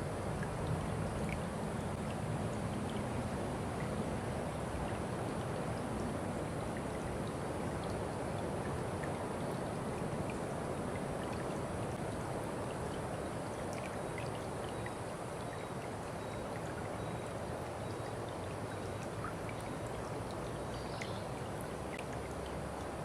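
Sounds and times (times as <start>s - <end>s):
stream of water running: 0.0s - 23.0s
faint splashing ticks: 0.1s - 23.0s.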